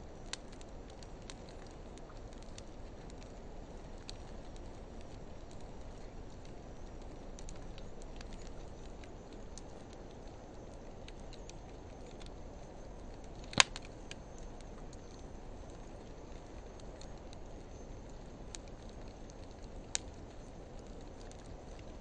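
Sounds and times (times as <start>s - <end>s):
faint fire crackles: 0.0s - 22.0s
low rumble of flame: 0.0s - 22.0s.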